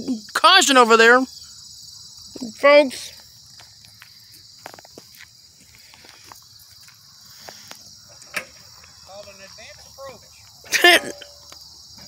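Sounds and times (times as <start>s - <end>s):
insects singing in grass: 0.0s - 12.0s.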